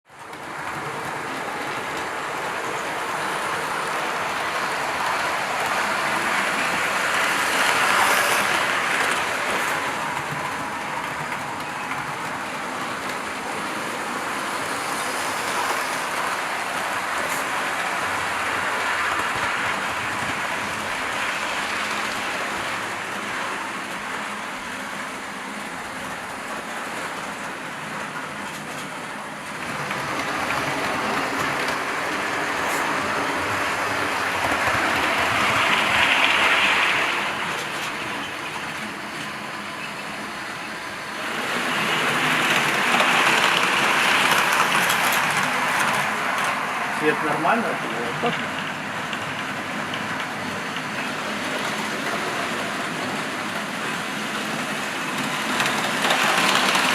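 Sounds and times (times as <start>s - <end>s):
train wheels rumbling on track: 0.0s - 56.9s.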